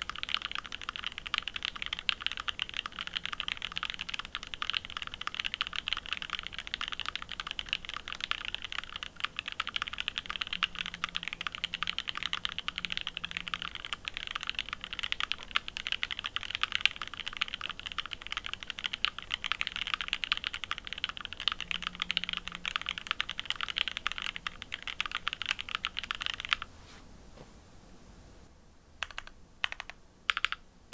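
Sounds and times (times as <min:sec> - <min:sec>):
typing on a mechanical keyboard: 0:00.0 - 0:26.7, 0:29.0 - 0:30.6.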